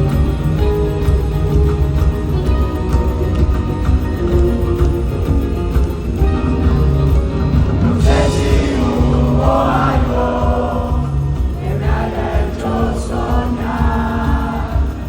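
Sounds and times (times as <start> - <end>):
live rock band with singing: 0.0 - 15.0.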